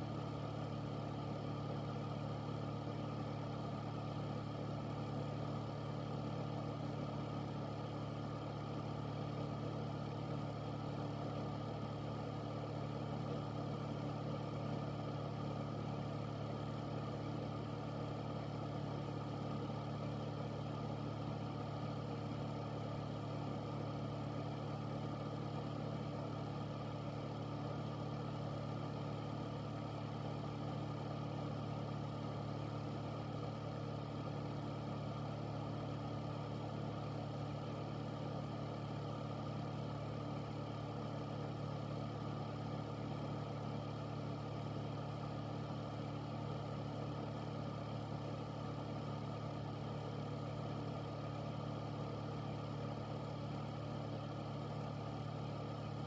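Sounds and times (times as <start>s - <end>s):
air purifier fan running: 0.0s - 56.0s.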